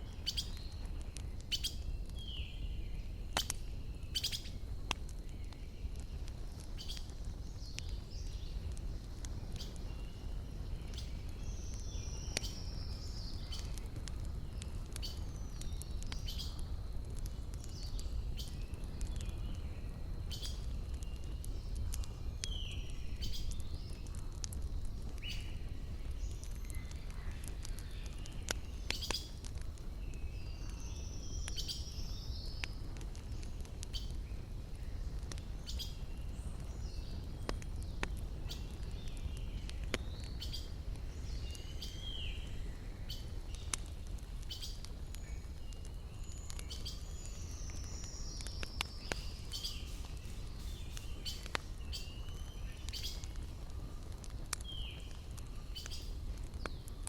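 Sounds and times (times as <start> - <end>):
campfire crackling and popping: 0.0 - 57.0
small birds chirping: 0.0 - 57.0.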